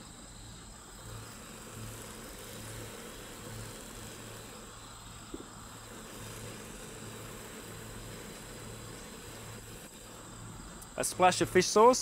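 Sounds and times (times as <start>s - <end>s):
high insect buzz: 0.0s - 12.0s
low pulsing hum: 0.0s - 12.0s.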